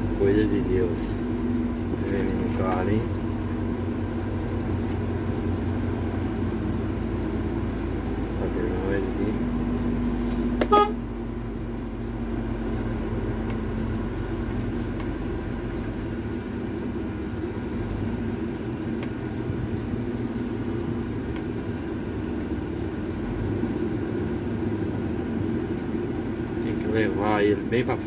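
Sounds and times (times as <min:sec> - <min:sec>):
road noise: 0:00.0 - 0:28.0
truck engine droning: 0:00.0 - 0:28.0.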